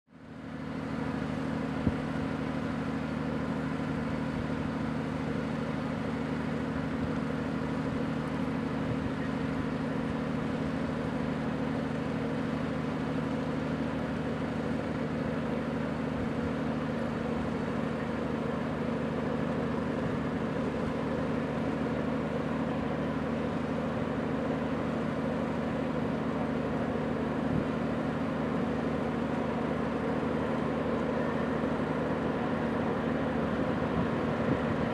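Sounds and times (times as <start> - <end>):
distant diesel engine drone: 0.1 - 34.9.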